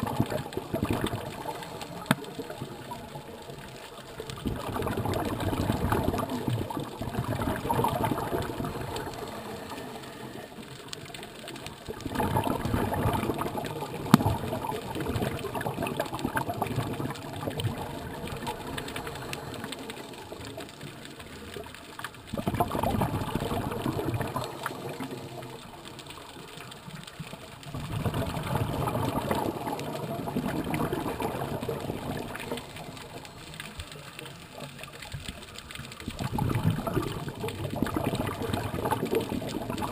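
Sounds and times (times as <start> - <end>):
underwater breath bubbles: 0.0 - 34.2, 35.3 - 39.9.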